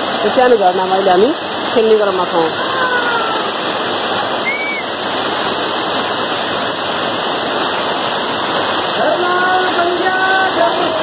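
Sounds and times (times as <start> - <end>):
waterfall roar: 0.0 - 11.0.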